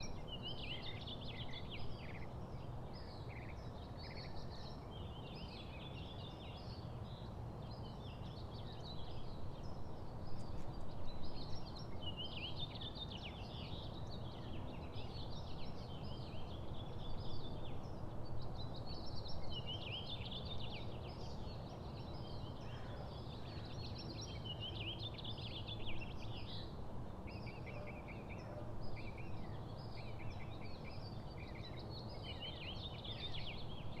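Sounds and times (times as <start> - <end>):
songbirds twittering: 0.0 - 34.0.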